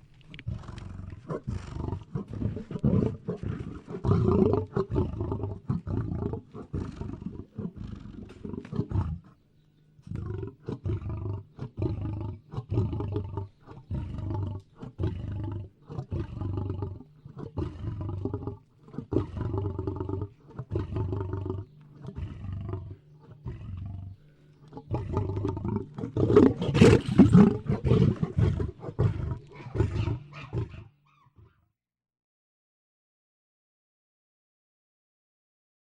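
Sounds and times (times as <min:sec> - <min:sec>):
lion roaring: 0:00.3 - 0:09.4, 0:10.0 - 0:31.0.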